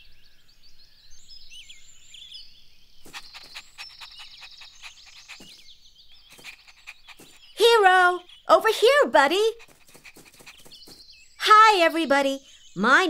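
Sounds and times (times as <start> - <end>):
birds chirping: 0.3 - 13.0.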